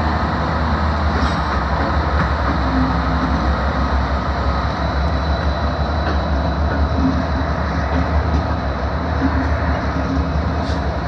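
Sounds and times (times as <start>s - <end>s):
locomotive engines rumbling: 0.0s - 11.0s
wheel and rail noise: 0.0s - 11.0s.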